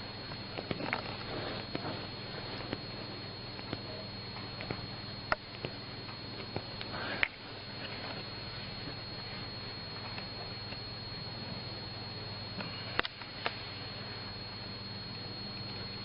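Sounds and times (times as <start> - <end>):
electrical hum: 0.0 - 16.0
high whine: 0.0 - 16.0.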